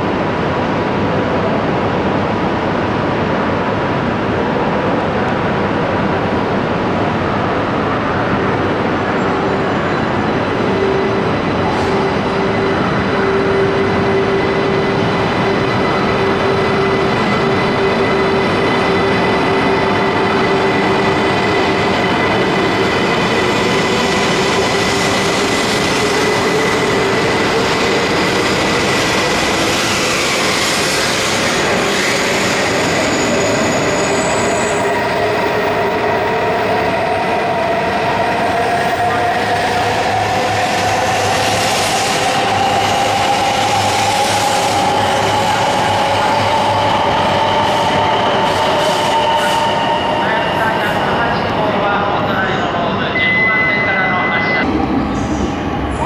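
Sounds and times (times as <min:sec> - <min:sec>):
rush of train wheels and air: 0:00.0 - 0:52.0.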